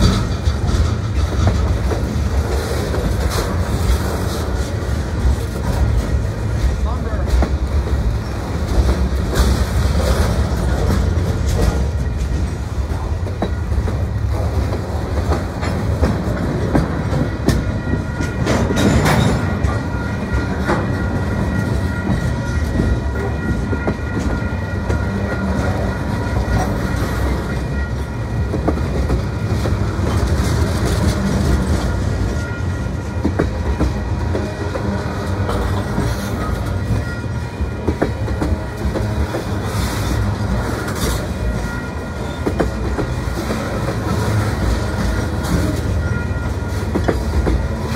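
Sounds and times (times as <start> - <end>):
freight train wheels rumbling on rails: 0.0 - 47.9.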